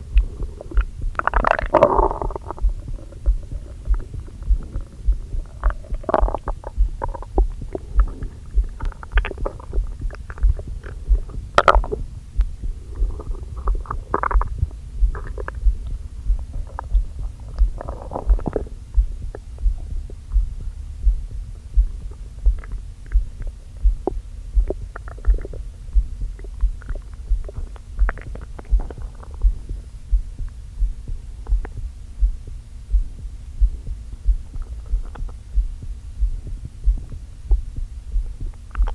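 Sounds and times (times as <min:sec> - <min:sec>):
low heartbeat thump: 0:00.0 - 0:38.9
stomach gurgling and rumbling: 0:00.0 - 0:38.9.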